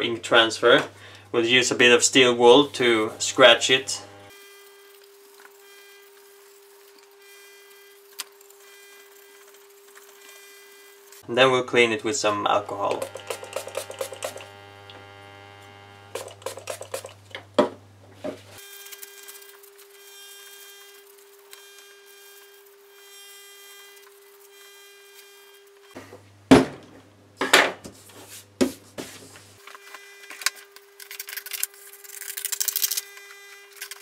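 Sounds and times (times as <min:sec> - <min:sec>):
faint electrical hum: 0:00.0 - 0:34.0.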